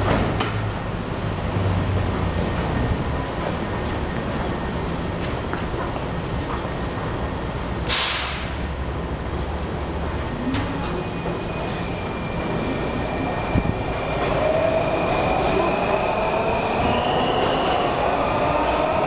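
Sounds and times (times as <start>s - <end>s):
train arriving: 0.0s - 19.0s.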